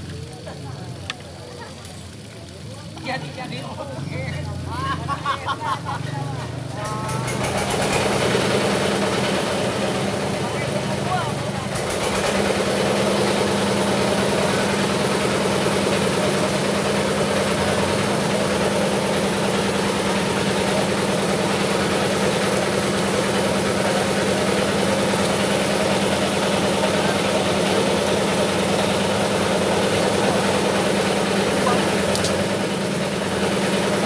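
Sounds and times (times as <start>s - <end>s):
engine droning: 0.0s - 34.0s.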